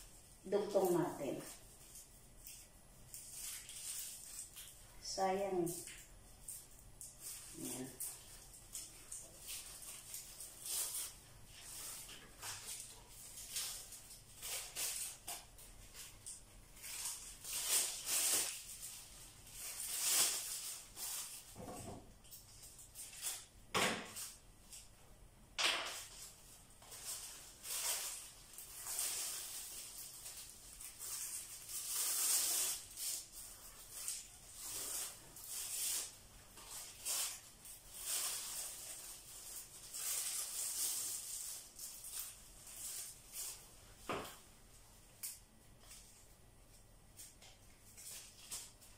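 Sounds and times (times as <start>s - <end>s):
plastic bag strips rustling: 0.0s - 25.0s, 25.6s - 48.9s.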